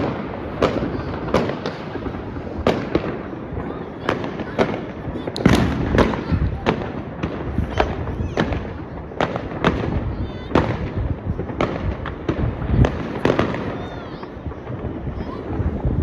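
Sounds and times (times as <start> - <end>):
distant explosions rumbling: 0.0 - 16.0
fireworks bangs and pops: 0.0 - 16.0.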